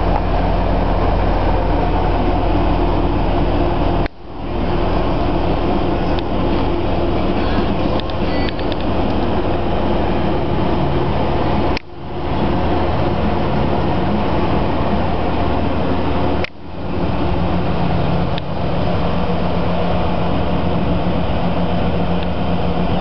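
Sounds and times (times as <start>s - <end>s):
bus engine idling: 0.0s - 23.0s.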